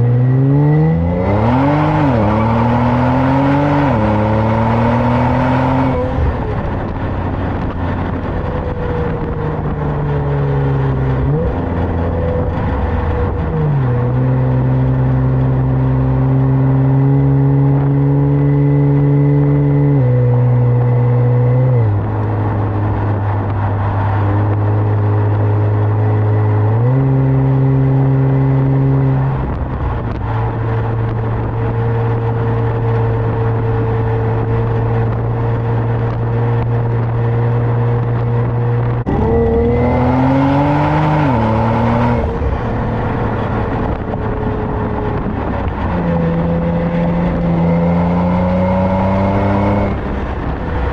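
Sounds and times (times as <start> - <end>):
car exhaust drone: 0.0 - 50.9.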